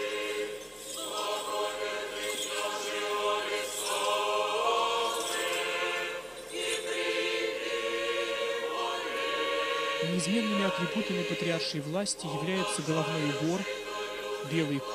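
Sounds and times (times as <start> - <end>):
choir singing a chant: 0.0 - 14.9.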